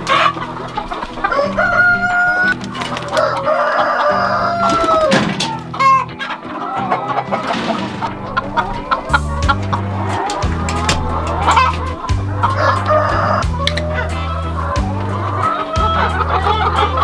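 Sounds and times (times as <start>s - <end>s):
background music with low tones: 0.0s - 17.0s
chickens clucking and calling: 0.0s - 17.0s.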